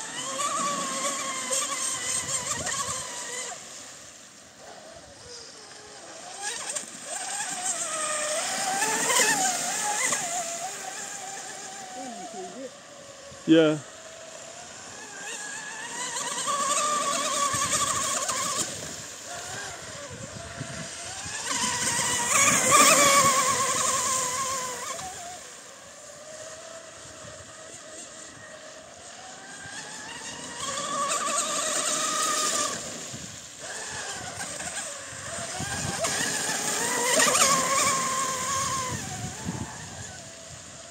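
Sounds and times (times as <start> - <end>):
rc boat electric motor whining: 0.0 - 40.9.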